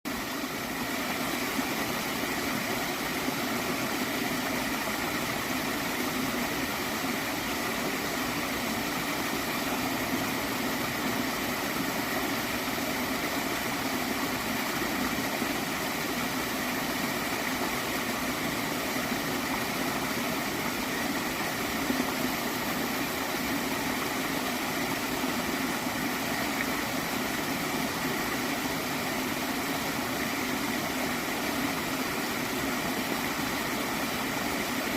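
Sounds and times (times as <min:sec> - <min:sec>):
stream flowing gently: 0:00.1 - 0:34.9.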